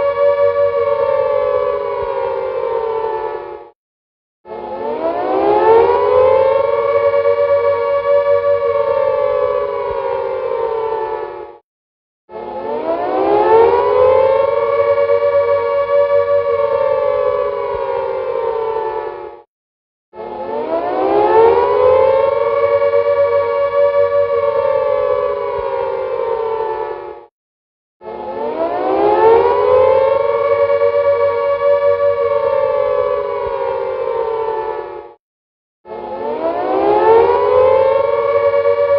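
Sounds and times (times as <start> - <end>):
air raid siren wailing: 0.0 - 3.8, 4.4 - 11.6, 12.3 - 19.5, 20.2 - 27.3, 28.0 - 35.2, 35.9 - 38.9.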